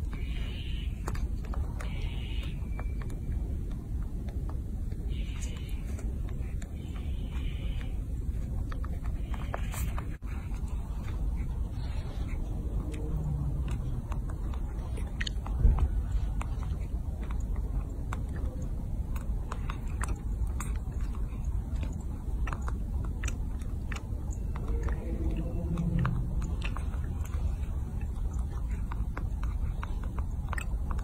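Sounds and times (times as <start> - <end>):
monkey chewing and smacking: 0.0 - 31.0
steady low rumble: 0.0 - 31.0.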